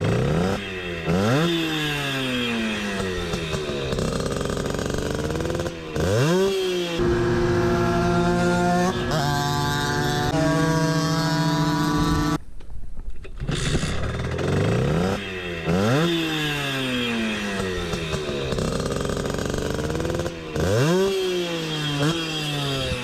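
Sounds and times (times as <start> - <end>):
moped engine revving: 0.0 - 12.4, 13.4 - 23.0.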